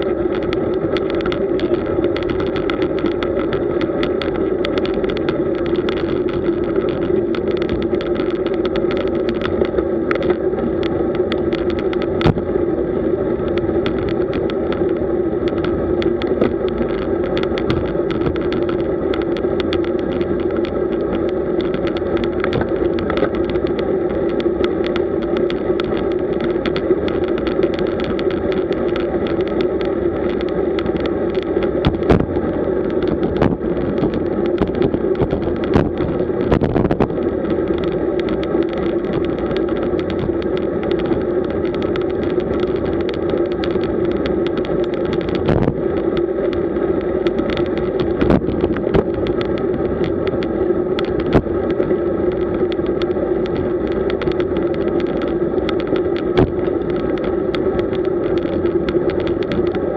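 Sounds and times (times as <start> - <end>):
tyre and road noise hum: 0.0 - 59.9.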